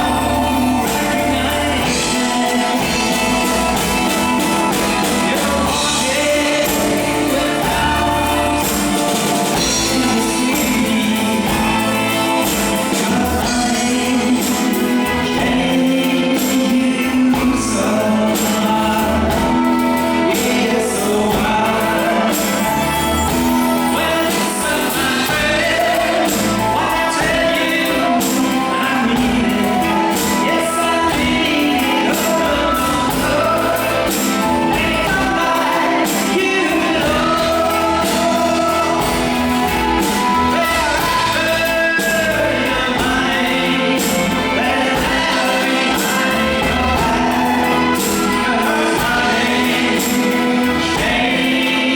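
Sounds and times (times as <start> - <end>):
live pop band playing: 0.0 - 51.9
steady drum beat: 0.0 - 51.9
sung vocals: 0.0 - 51.9.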